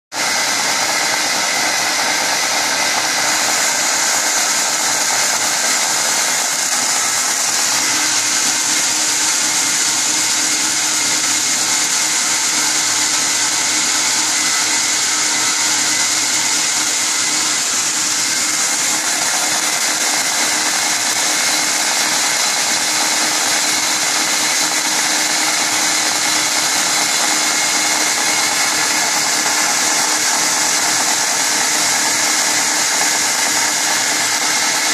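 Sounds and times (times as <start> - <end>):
belt grinder running: 0.1 - 34.9
sanding belt whirring: 0.1 - 34.9.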